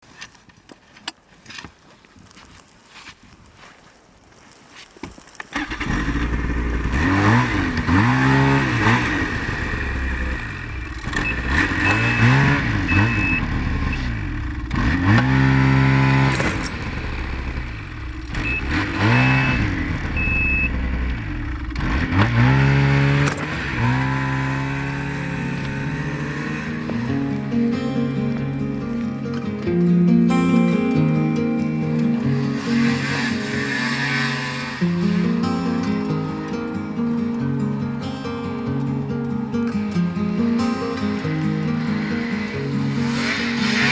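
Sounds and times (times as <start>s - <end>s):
snowmobile engine revving: 5.5s - 38.1s, 39.5s - 43.9s.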